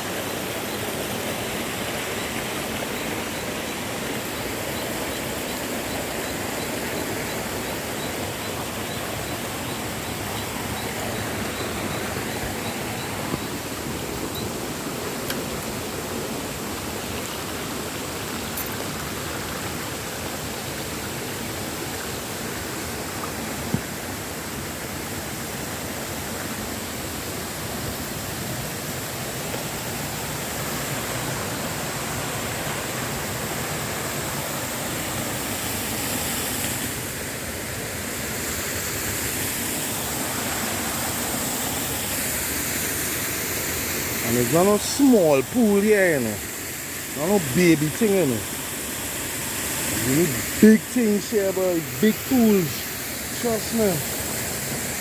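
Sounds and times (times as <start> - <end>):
waterfall rushing and splashing: 0.0 - 55.0.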